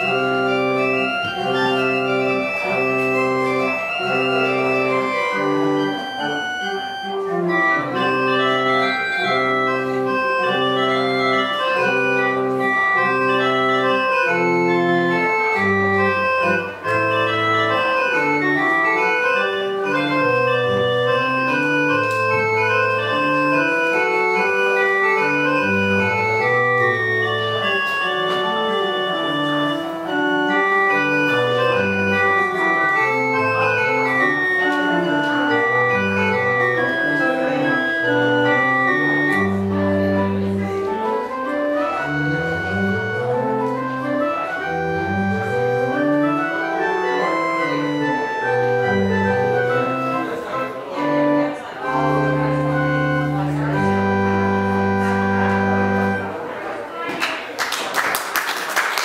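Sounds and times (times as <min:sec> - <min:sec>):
church organ playing: 0:00.0 - 0:56.8.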